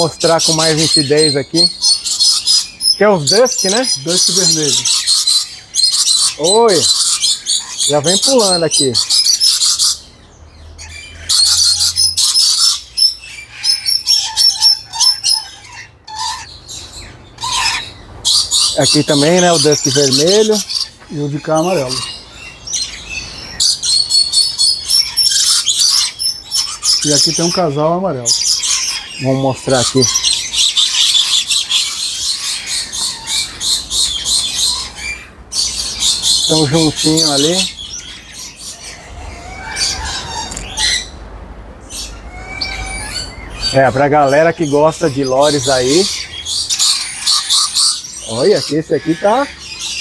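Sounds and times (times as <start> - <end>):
lories screeching and chattering: 0.0 - 50.0.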